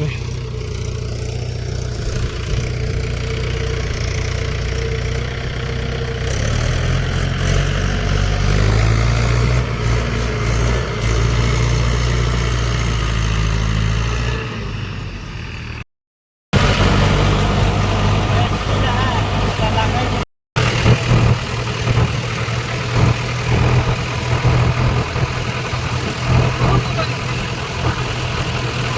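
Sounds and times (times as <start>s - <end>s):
diesel tractor engine running: 0.0s - 15.8s, 16.6s - 28.9s.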